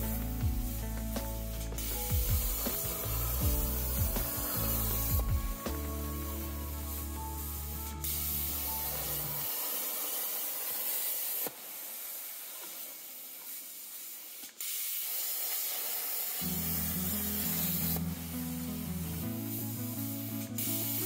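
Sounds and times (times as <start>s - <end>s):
plasma cutter hissing: 0.0s - 21.0s.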